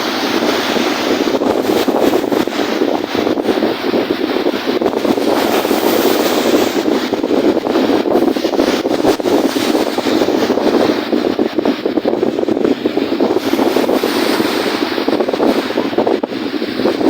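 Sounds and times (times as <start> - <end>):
waves washing on lake: 0.0 - 17.0
wind buffeting microphone: 0.0 - 17.0.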